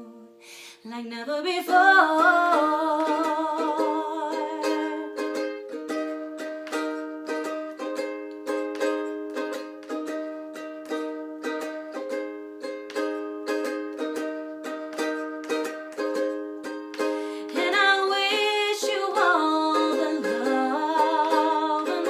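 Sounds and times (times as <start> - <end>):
ukulele strumming chords: 1.0 - 22.0.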